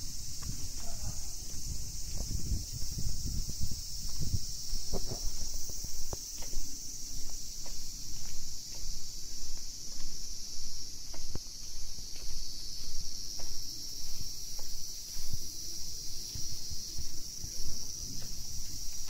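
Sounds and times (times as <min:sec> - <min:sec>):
footsteps on stone path: 0:00.0 - 0:19.0
high-pitched insect drone: 0:00.0 - 0:19.0.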